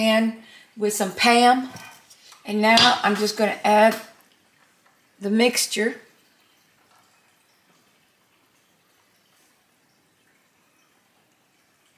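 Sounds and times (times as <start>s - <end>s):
faint room hiss: 0.0s - 11.9s.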